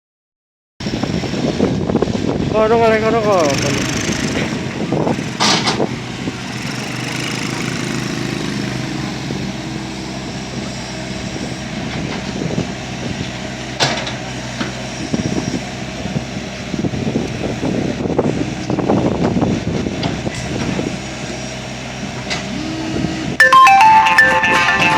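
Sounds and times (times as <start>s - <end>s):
diesel engine running: 0.8s - 24.9s.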